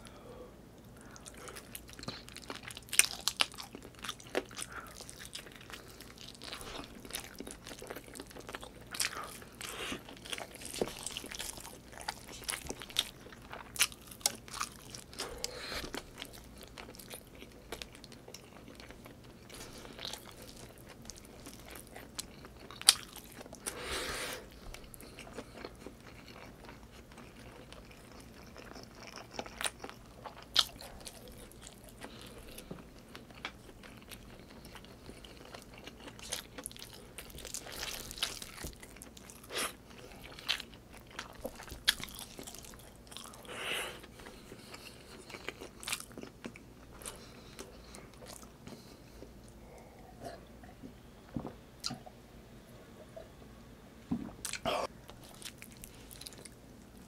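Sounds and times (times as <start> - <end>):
close-miked chewing: 0.8 - 50.8, 54.4 - 57.0.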